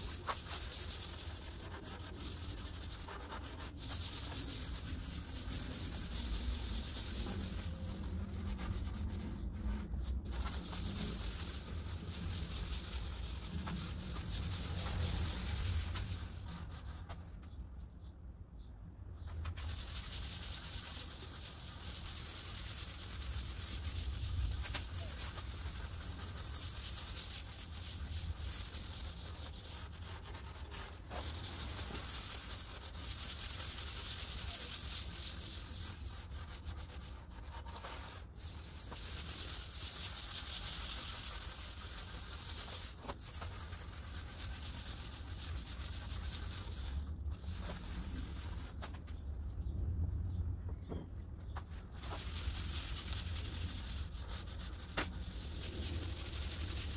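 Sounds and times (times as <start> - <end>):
pad rubbing on wood: 0.0 - 17.3, 19.5 - 49.0, 51.9 - 56.9.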